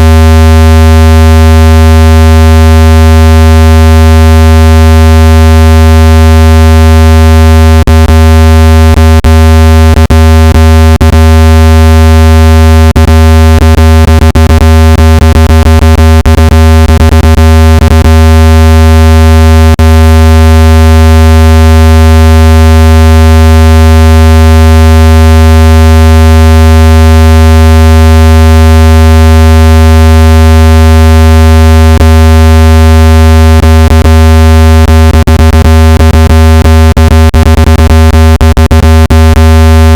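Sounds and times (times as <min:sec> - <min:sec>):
buzzy low synthesized tone: 0:00.0 - 0:39.9.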